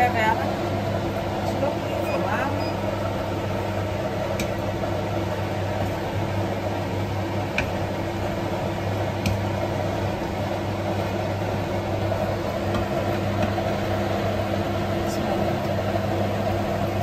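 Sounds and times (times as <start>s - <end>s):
food stir-frying: 0.0s - 17.0s
kitchen fan humming: 0.0s - 17.0s.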